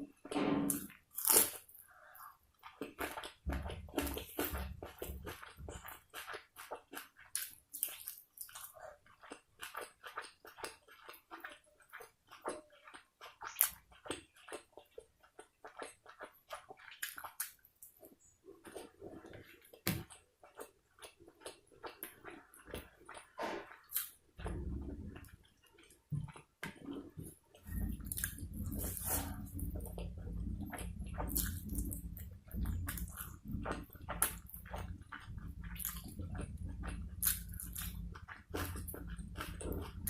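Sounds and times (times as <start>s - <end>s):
close chewing with lip smacks: 1.5s - 40.0s.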